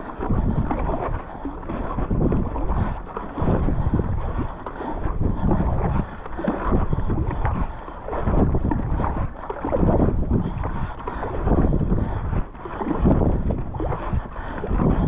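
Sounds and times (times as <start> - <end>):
paddle strokes splashing water: 0.0 - 15.0
wind buffeting microphone: 0.0 - 15.0.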